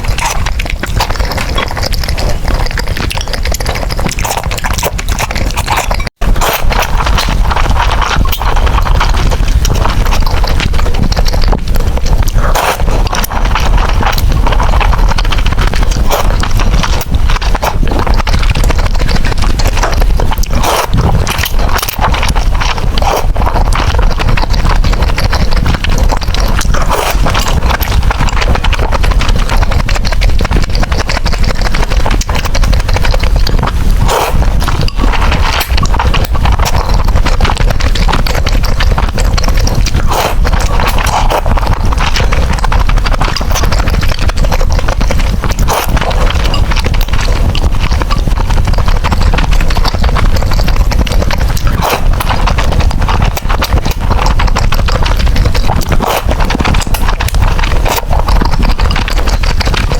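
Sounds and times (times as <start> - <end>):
chewing and slurping noodles: 0.0 - 59.9.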